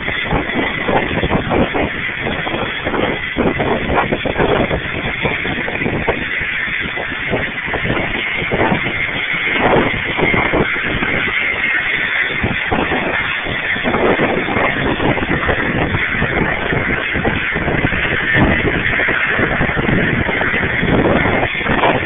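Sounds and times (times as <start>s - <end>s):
jet engines whining: 0.0s - 22.0s
wind buffeting microphone: 0.0s - 22.0s.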